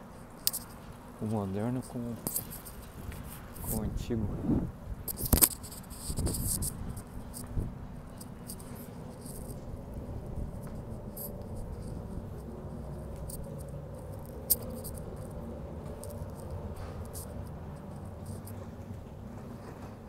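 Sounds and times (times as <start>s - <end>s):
faint hum: 0.0s - 20.0s
low street background noise: 0.0s - 20.0s.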